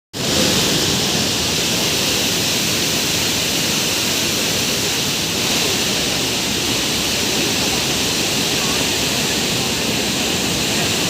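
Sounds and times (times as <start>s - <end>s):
water roaring through spillway: 0.2s - 11.0s.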